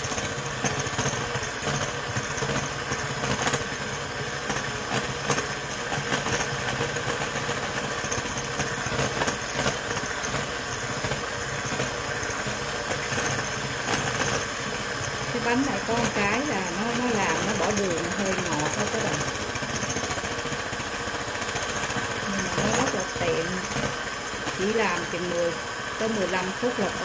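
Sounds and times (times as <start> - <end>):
electric hand mixer whirring: 0.0 - 27.0.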